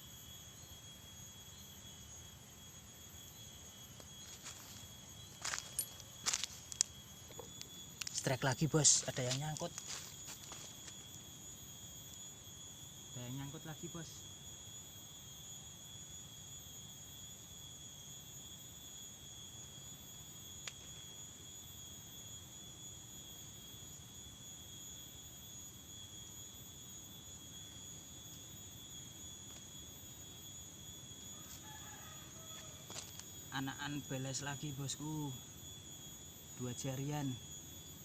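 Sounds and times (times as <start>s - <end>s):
crickets droning: 0.0s - 38.0s.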